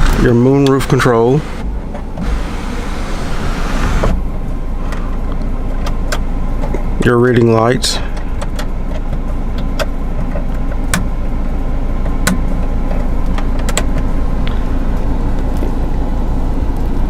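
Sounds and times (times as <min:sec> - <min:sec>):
car hum inside cabin: 0:00.0 - 0:17.0.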